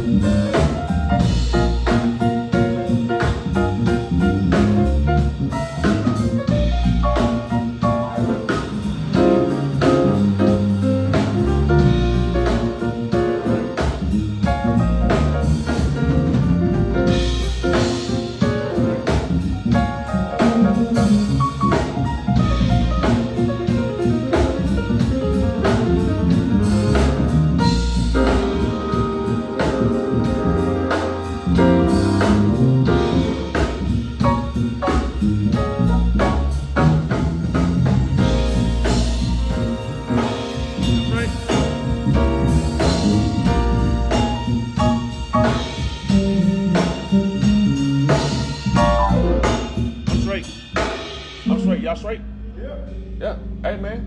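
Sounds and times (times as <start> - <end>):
live band playing jazzy groove: 0.0 - 52.0.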